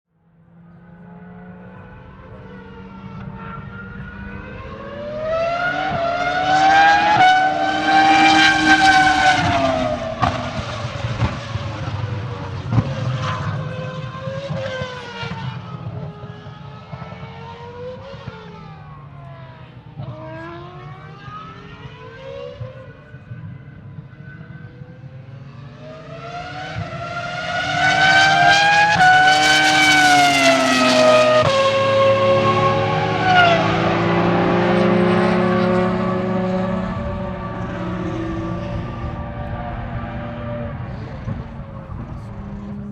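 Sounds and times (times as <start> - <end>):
racing car engine shifting gears: 0.6 - 18.7, 24.6 - 42.9.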